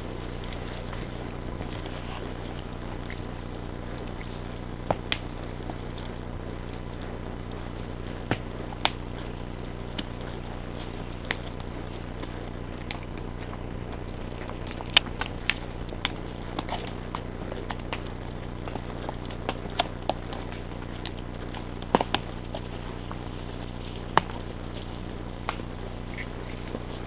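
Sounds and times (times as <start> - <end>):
horse hooves on a trail: 0.0 - 27.0
low steady hum: 0.0 - 27.0
sharp clicks and cracks: 0.0 - 27.0.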